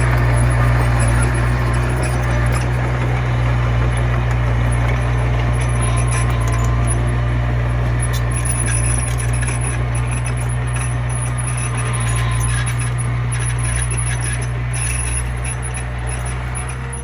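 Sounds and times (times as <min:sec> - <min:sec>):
bulldozer diesel engine running: 0:00.0 - 0:17.0
small metal clanks: 0:00.0 - 0:17.0.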